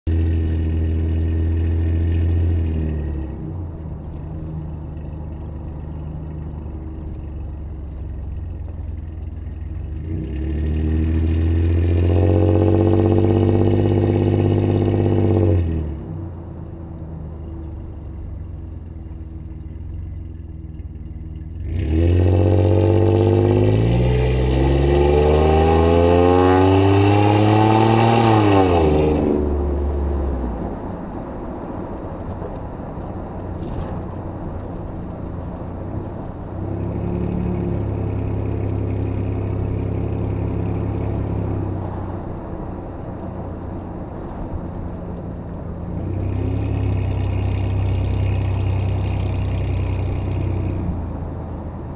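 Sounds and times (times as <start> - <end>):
car exhaust idling and revving: 0.0 - 51.9.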